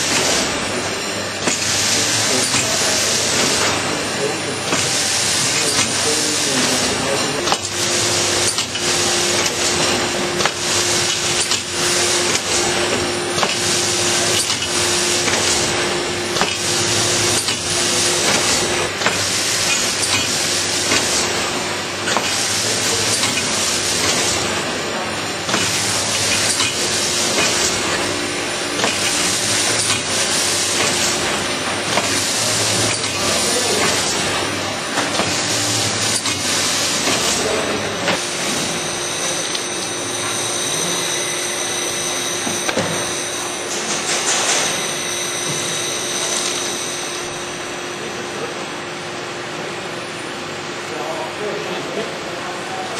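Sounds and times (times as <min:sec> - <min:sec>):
packaging machine hissing: 0:00.0 - 0:47.5.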